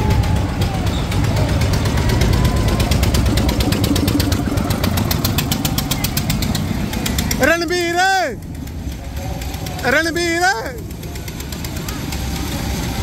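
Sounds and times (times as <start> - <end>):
roller coaster rumble: 0.0 - 13.0.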